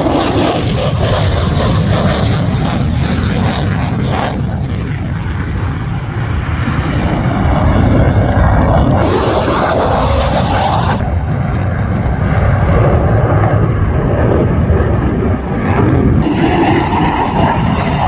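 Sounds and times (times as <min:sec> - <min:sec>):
airplane engine roaring: 0:00.0 - 0:18.0.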